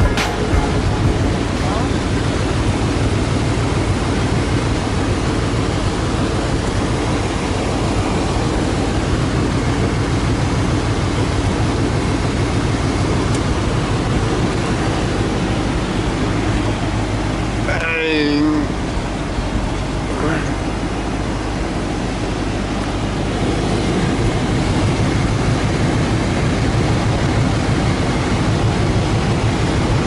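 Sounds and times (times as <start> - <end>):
engine drone: 0.0 - 30.0
wind and road noise: 0.0 - 30.0.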